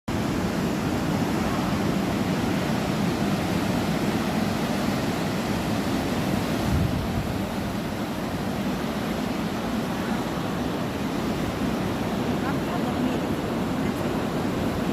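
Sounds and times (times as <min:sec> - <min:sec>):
sea surf washing on a beach: 0:00.1 - 0:14.9.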